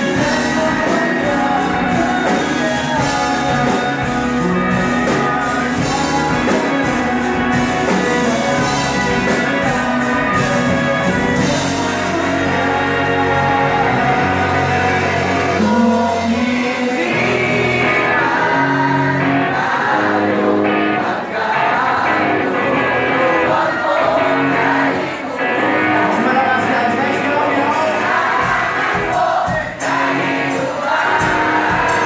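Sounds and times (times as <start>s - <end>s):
bass guitar: 0.0s - 32.0s
drums: 0.0s - 32.0s
electric guitars: 0.0s - 32.0s
person singing: 0.0s - 32.0s.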